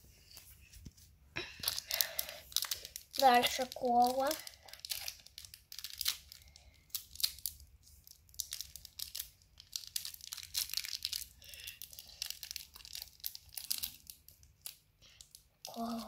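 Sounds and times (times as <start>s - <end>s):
candy wrapper crinkling: 1.4s - 16.0s.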